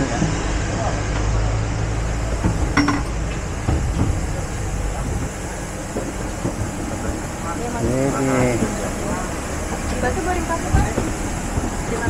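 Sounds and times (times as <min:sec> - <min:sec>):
cabin ventilation rumble and hiss: 0:01.7 - 0:12.0.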